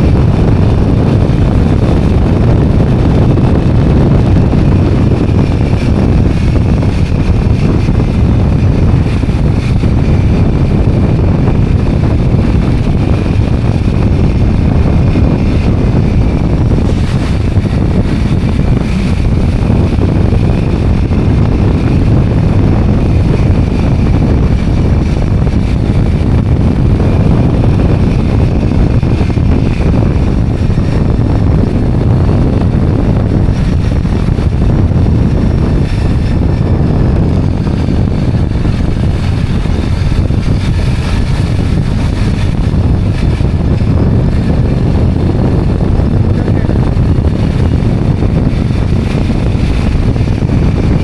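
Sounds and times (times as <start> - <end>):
motorbike engine running: 0.0 - 51.0
wind buffeting microphone: 0.0 - 51.0.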